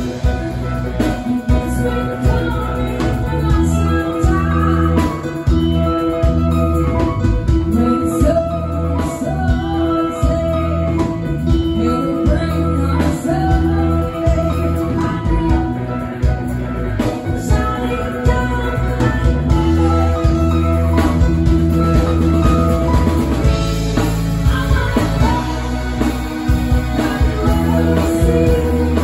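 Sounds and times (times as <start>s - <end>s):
drum kit: 0.0s - 29.0s
electric guitars: 0.0s - 29.0s
keyboard: 0.0s - 29.0s
woman singing: 0.0s - 29.0s.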